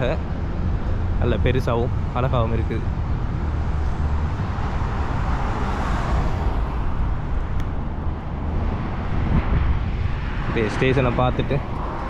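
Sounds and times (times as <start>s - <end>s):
road traffic rumble: 0.0s - 12.0s
vehicle passing: 0.0s - 12.0s.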